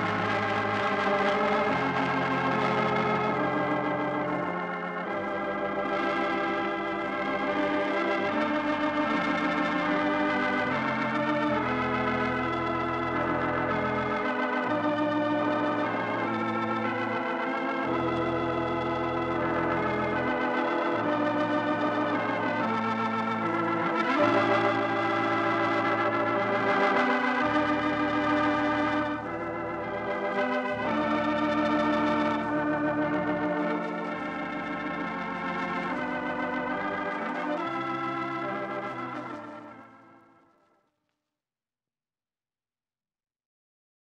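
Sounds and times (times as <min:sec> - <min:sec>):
organ playing slow chords: 0:00.0 - 0:40.6.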